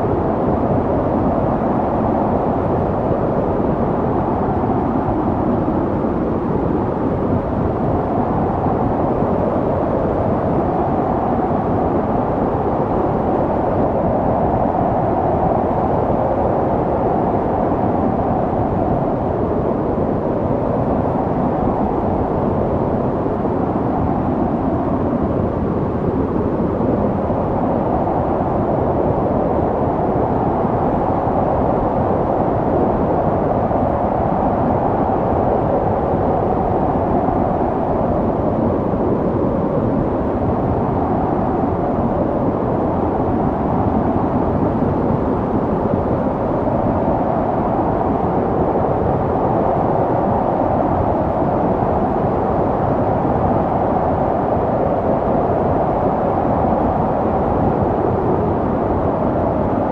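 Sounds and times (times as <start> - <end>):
snowstorm wind blowing: 0.0 - 59.9.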